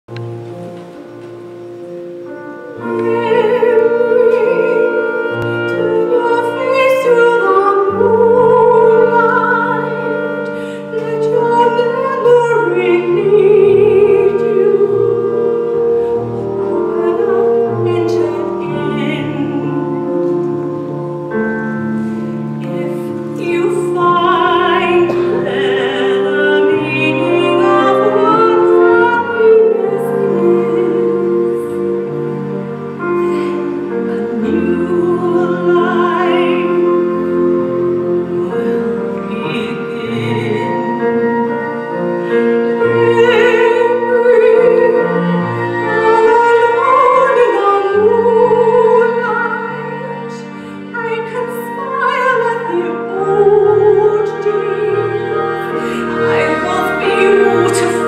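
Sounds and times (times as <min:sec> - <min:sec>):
instrumental accompaniment: 0:00.0 - 0:58.0
woman singing ballad: 0:02.6 - 0:21.6, 0:22.6 - 0:58.0.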